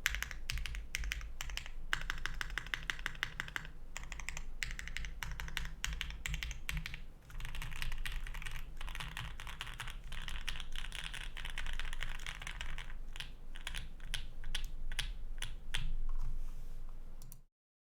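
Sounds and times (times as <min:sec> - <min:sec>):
mechanical keyboard typing: 0:00.0 - 0:16.0.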